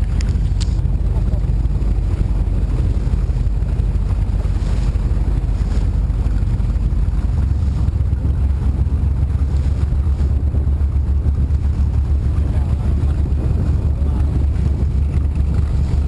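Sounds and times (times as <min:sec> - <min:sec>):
powerboat engines running: 0:00.0 - 0:16.0
wind buffeting microphone: 0:00.0 - 0:16.0.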